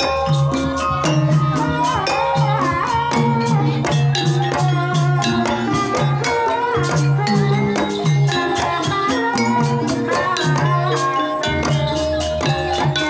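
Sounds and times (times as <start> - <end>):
hand drums beating sharp strokes: 0.0 - 13.0
low pitched percussion melody: 0.0 - 13.0.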